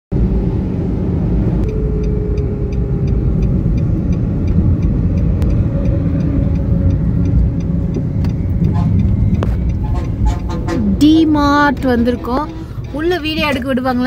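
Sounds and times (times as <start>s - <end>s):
vehicle rumble: 0.1s - 14.0s
light regular ticking: 1.4s - 14.0s.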